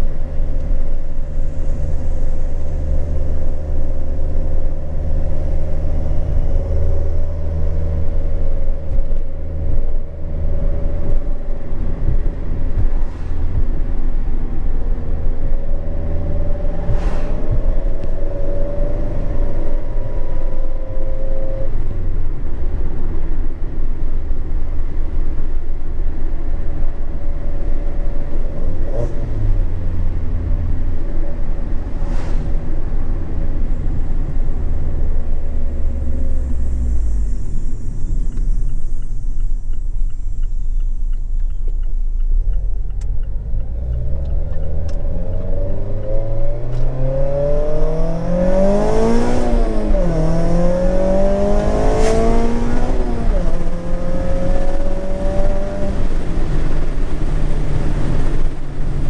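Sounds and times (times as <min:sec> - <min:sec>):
car exhaust drone: 0:00.0 - 0:59.0
road noise: 0:00.0 - 0:59.0.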